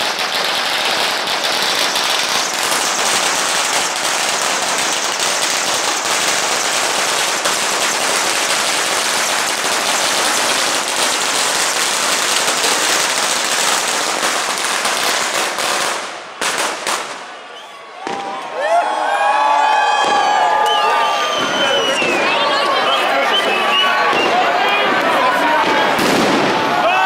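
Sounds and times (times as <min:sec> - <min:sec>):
firecrackers crackling: 0:00.0 - 0:18.5, 0:19.9 - 0:27.0.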